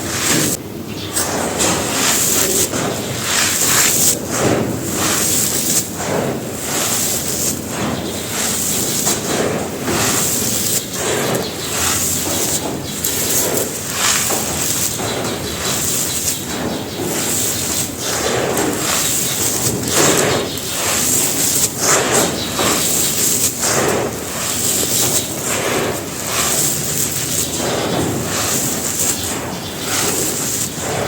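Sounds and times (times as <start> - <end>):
dirt crumbling and crunching: 0.0 - 31.0.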